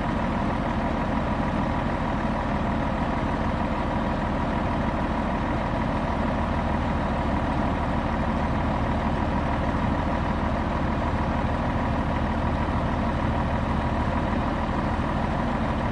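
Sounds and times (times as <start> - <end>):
truck diesel engine idling: 0.0 - 15.9.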